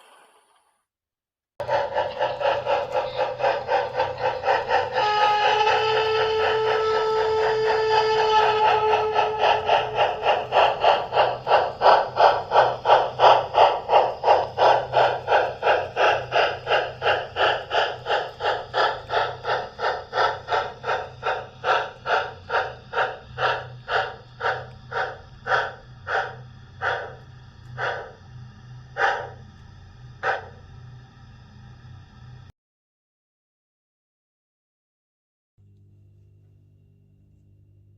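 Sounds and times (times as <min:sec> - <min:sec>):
model train running: 0:01.6 - 0:32.5.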